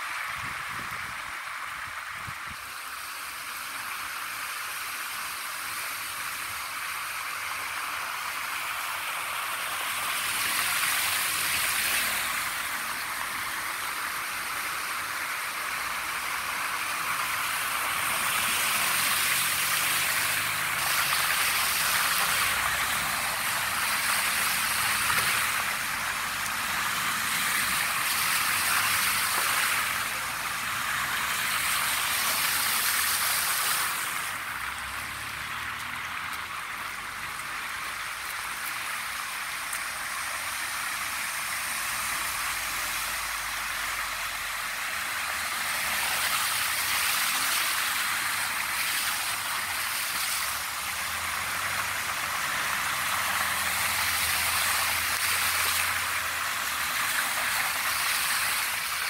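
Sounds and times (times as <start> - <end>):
car tyres hissing through water: 0.0 - 59.0
heavy rain: 0.0 - 59.0
water running over a street: 0.0 - 59.0.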